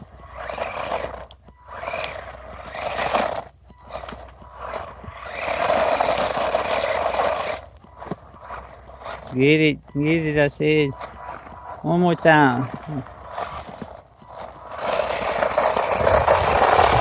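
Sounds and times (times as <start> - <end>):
rc truck motor whining: 0.0 - 17.0
tyres scraping over ground: 0.0 - 17.0.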